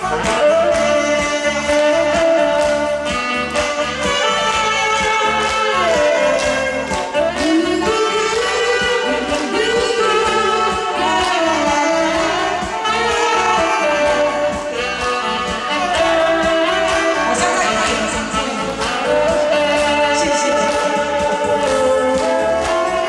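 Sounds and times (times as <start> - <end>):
saxophone playing pop melody: 0.0 - 23.0.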